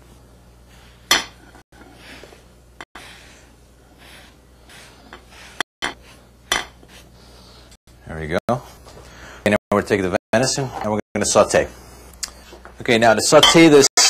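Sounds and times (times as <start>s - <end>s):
low steady hum: 0.0s - 13.7s.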